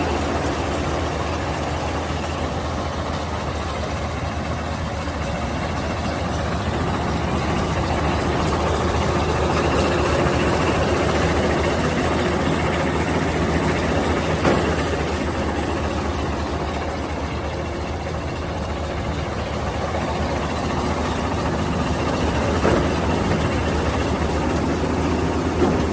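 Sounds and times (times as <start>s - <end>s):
combine harvester engine droning: 0.0s - 25.9s.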